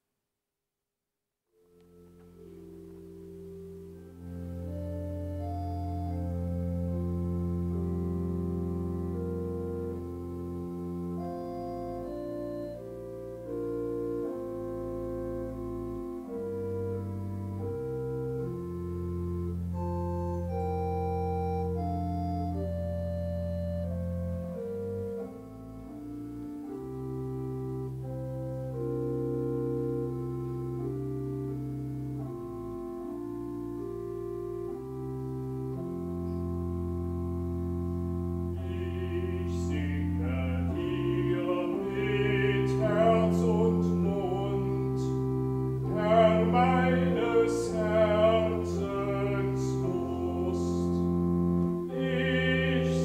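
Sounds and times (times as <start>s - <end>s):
church organ chords: 1.6s - 53.0s.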